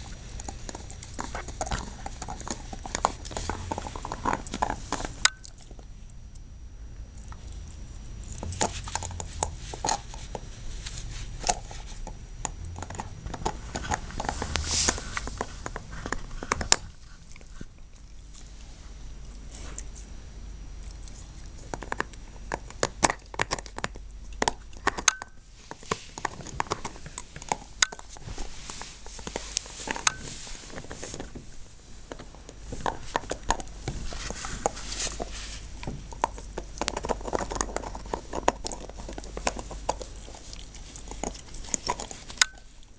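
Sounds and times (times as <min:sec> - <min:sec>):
dog gnawing a bone: 0:00.0 - 0:06.4, 0:07.1 - 0:42.9.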